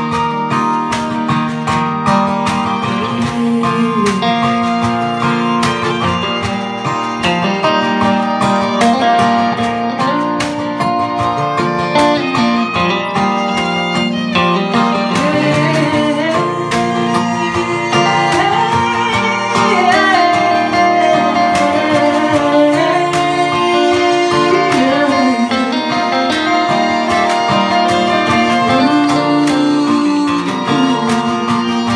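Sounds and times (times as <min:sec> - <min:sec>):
fiddle melody: 0:00.0 - 0:31.9
strummed acoustic guitar: 0:00.0 - 0:31.9.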